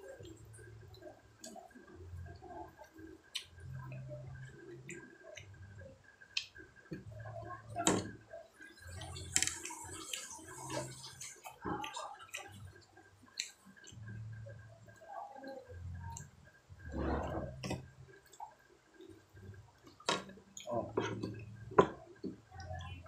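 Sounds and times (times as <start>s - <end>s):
chewing and lip-smacking: 0.0s - 7.6s, 8.4s - 23.0s.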